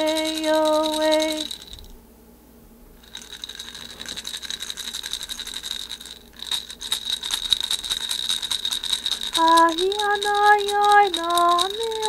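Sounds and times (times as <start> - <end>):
hand rattles shaken: 0.0 - 1.9, 3.0 - 12.0.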